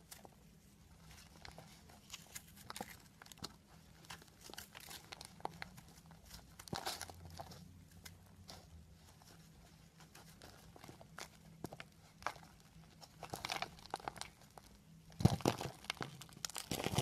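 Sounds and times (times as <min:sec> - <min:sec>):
soap crumbling and crunching: 0:00.0 - 0:09.2, 0:09.9 - 0:17.0.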